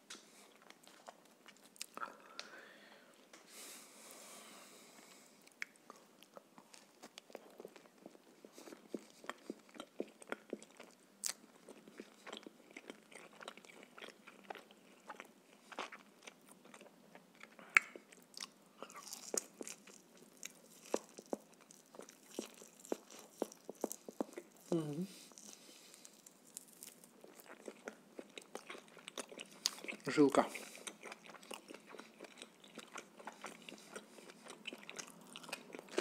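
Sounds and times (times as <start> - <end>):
chewing and biting food: 5.5 - 36.0.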